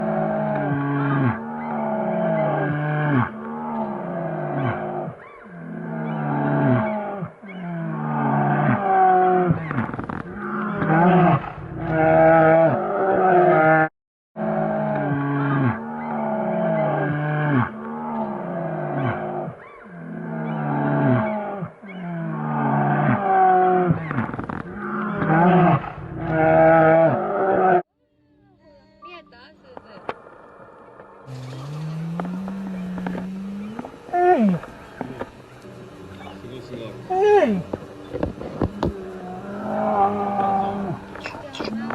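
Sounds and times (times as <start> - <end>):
bear calling with pitched cries: 0.0 - 11.3, 15.0 - 27.8, 31.3 - 35.3, 36.1 - 41.9.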